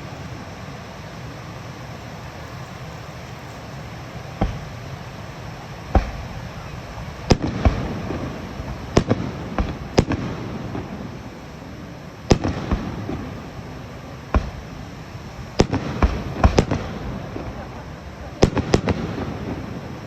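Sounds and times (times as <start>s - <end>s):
continuous noisy background: 0.0s - 20.0s
fireworks bangs: 3.6s - 20.0s.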